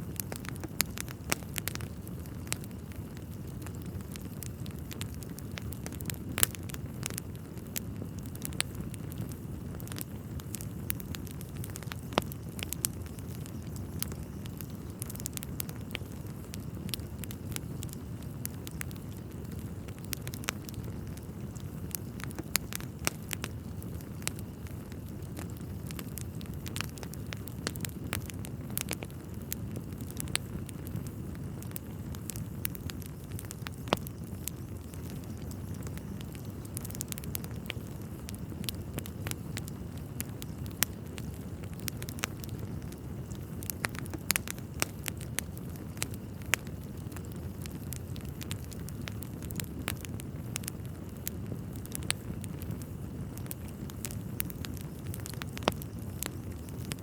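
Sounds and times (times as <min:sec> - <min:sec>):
low rush of burning logs: 0:00.0 - 0:57.0
wood fire crackling and popping: 0:00.0 - 0:57.0.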